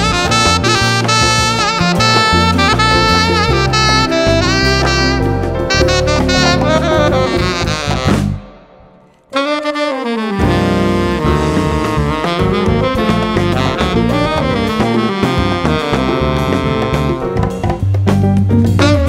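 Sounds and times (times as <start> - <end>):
latin jazz band: 0.0 - 19.0
tenor saxophone playing jazz: 0.0 - 19.0.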